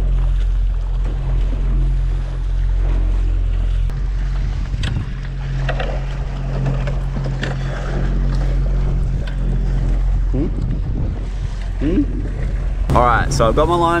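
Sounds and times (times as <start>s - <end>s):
low hum: 0.0s - 14.0s
water splashing along a hull: 0.0s - 14.0s.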